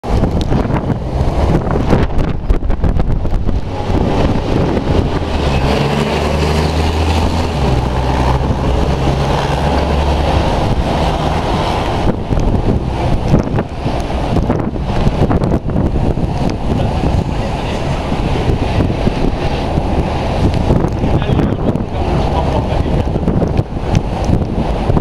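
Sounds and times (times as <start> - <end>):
heavy vehicle engine hum: 0.0 - 25.0
roadside traffic: 0.0 - 25.0
wind buffeting microphone: 0.0 - 25.0.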